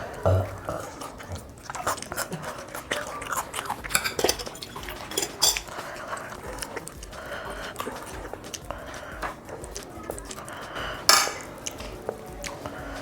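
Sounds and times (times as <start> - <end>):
crunchy chewing of food: 0.0 - 13.0.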